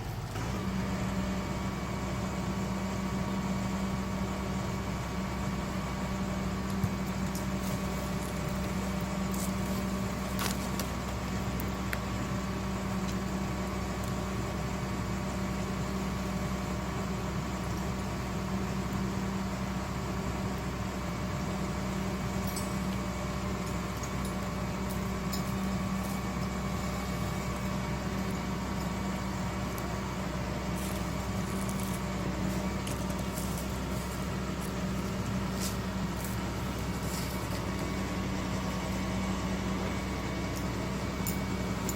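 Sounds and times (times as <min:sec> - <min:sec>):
excavator diesel engine humming: 0:00.0 - 0:41.9.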